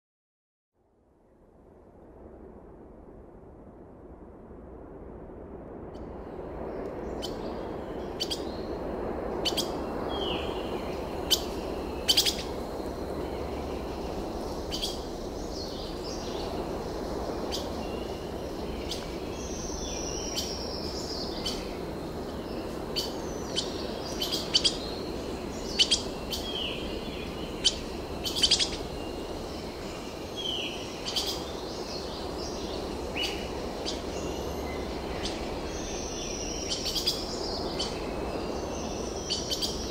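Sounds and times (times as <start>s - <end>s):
outdoor ambience hiss: 0.8s - 39.9s.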